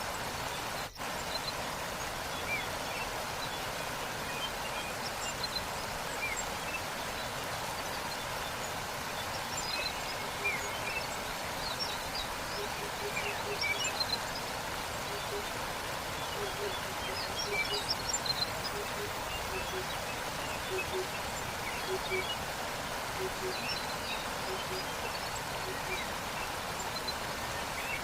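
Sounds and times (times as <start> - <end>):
waterfall rushing: 0.0 - 28.0
small birds chirping: 4.4 - 28.0.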